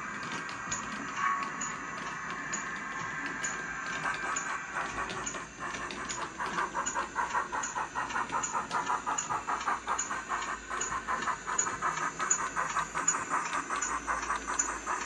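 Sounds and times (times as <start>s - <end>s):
steam locomotive chuffs from speaker: 0.0s - 15.0s.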